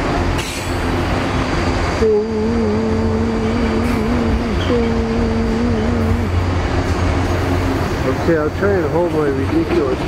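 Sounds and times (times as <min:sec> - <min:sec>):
freight train rumble: 0:00.0 - 0:10.0.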